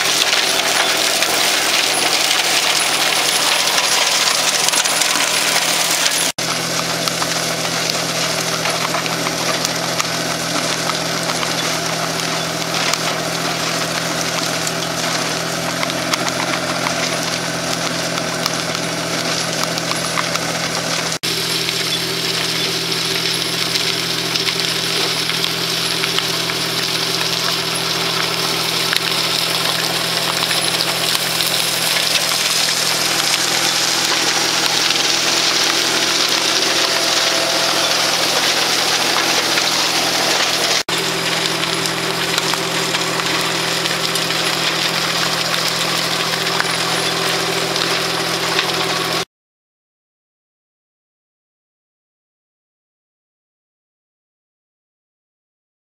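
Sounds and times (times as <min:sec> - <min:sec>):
tractor engine running: 0:00.0 - 0:49.3.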